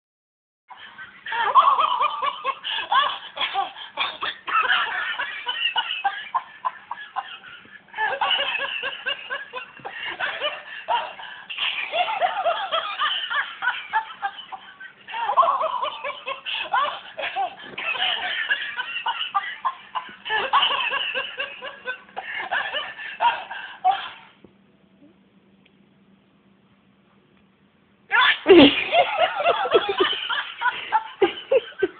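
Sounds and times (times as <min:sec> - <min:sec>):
toy dog laughing from speaker: 0:00.7 - 0:24.2, 0:28.1 - 0:31.9.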